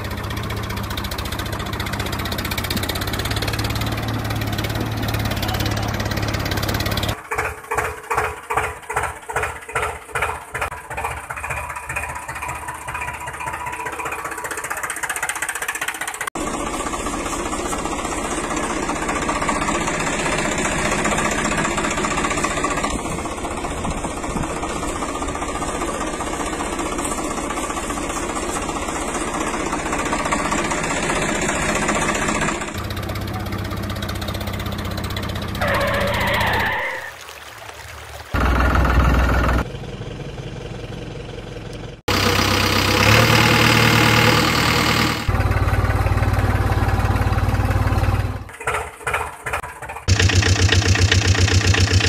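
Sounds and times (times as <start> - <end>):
tractor engine chugging: 0.0 - 37.1, 38.4 - 52.0.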